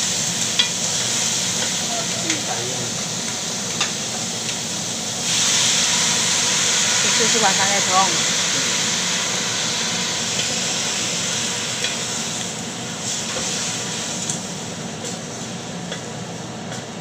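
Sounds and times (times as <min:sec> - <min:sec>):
food sizzling in a pot: 0:00.0 - 0:17.0.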